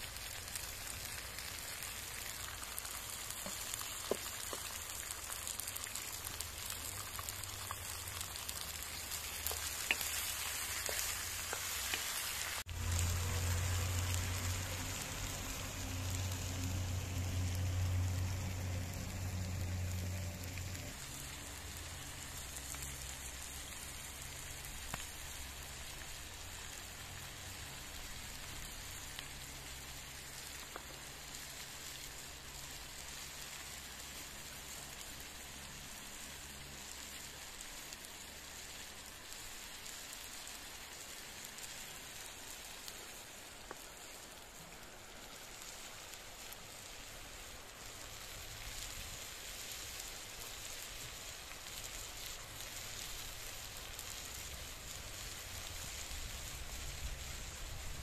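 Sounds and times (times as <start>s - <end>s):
food sizzling in pan: 0.0s - 58.0s.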